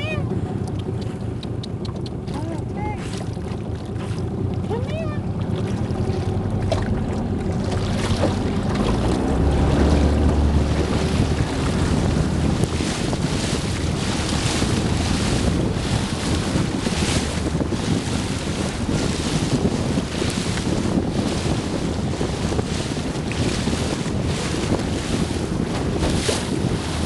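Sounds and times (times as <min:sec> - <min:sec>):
low rumble: 0:00.0 - 0:27.0
water washing alongside boat: 0:00.0 - 0:27.0
wind buffeting microphone: 0:00.0 - 0:27.0.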